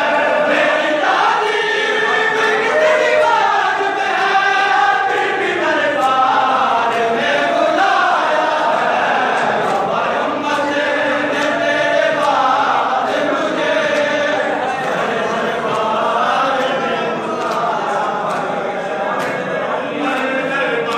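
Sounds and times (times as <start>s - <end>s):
crowd chanting in unison: 0.0s - 20.9s.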